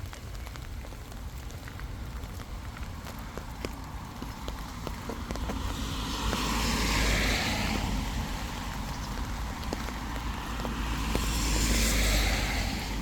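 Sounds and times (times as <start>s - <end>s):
vehicle tyre noise passing: 1.2s - 13.0s.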